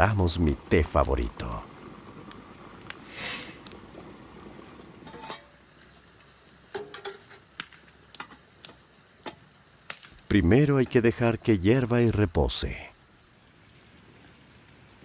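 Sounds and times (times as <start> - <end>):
faint low hiss: 0.0 - 15.0.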